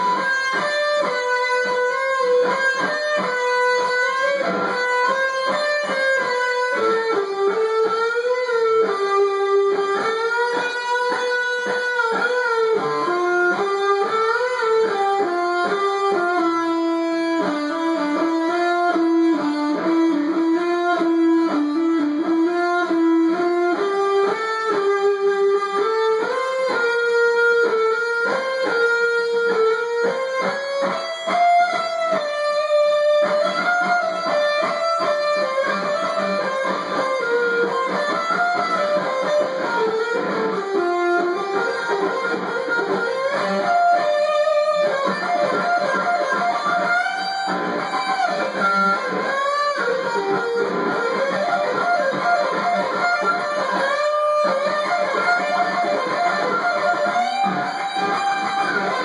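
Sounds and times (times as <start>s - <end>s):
electric guitar solo: 0.0s - 59.0s.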